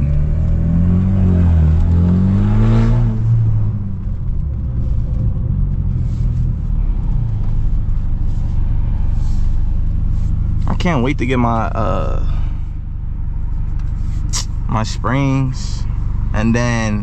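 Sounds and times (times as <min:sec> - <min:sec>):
car exhaust rumble: 0:00.0 - 0:17.0.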